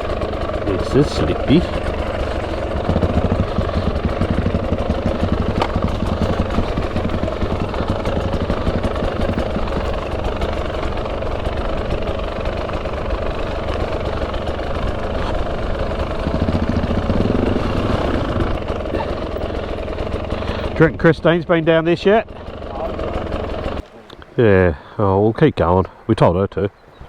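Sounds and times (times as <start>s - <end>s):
two-stroke dirt bike engine: 0.0s - 25.0s.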